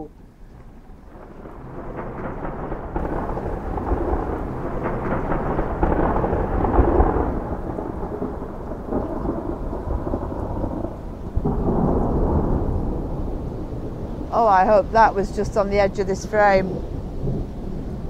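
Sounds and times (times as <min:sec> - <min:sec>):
rain falling: 0:00.0 - 0:18.0
rolling thunder: 0:00.0 - 0:18.0.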